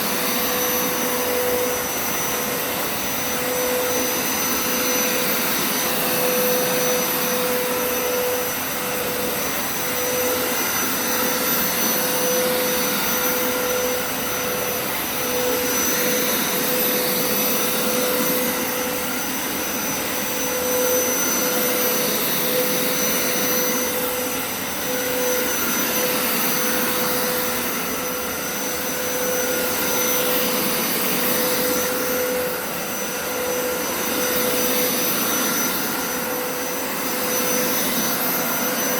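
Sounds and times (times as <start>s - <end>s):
carpet cleaner motor whine: 0.0s - 38.9s.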